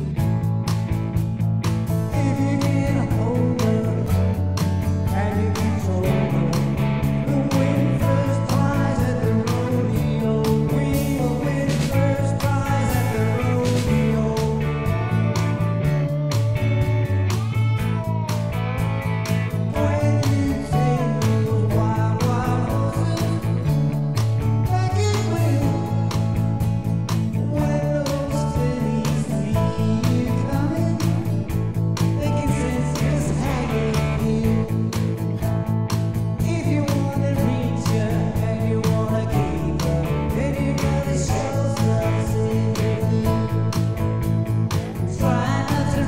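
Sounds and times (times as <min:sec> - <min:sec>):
rock song with guitar and drums: 0:00.0 - 0:46.0.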